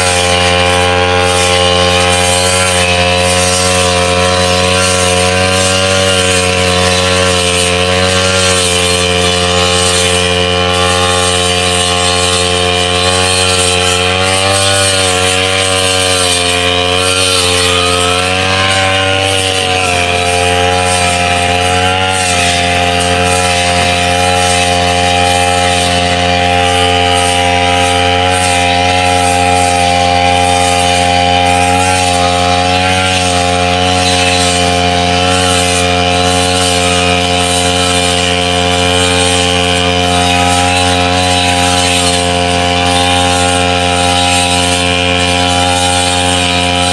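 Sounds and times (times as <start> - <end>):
blade cutting wet grass: 0.0 - 46.9
brush cutter engine running: 0.0 - 46.9.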